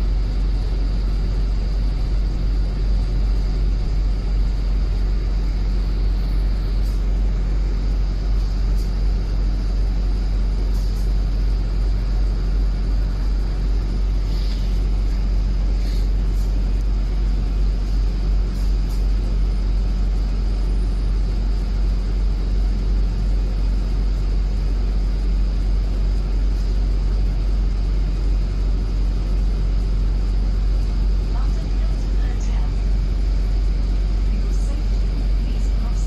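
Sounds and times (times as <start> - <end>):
bus engine and road rumble: 0.0 - 36.0
faint high whine: 0.0 - 36.0.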